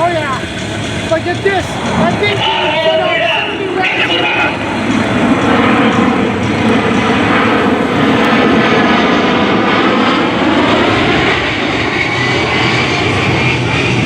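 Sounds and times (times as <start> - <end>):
faint high whine: 0.0 - 14.0
jet engines rushing: 0.0 - 14.0.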